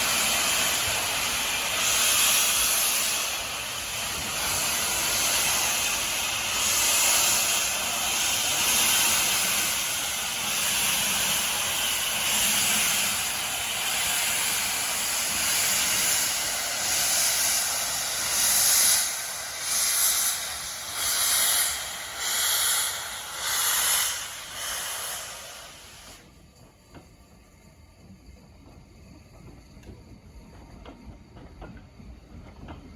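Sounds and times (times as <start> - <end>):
steam locomotive hissing: 0.0 - 26.8.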